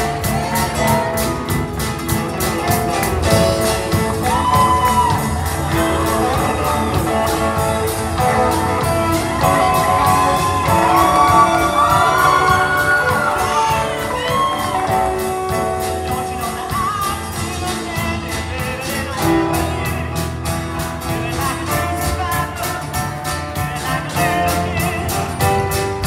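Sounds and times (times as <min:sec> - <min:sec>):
live band playing: 0:00.0 - 0:26.0.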